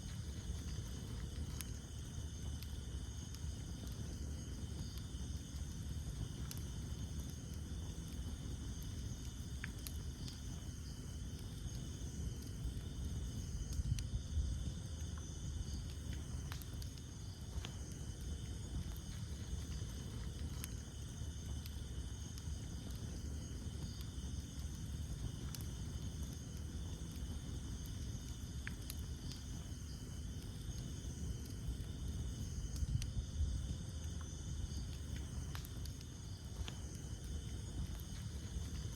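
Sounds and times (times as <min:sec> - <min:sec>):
campfire crackling and popping: 0:00.0 - 0:38.9
night insects chirping: 0:00.0 - 0:38.9.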